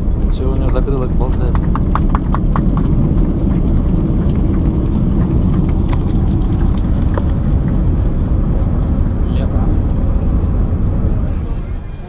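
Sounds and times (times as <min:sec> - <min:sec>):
deep rumble of aircraft rolling: 0:00.0 - 0:12.0.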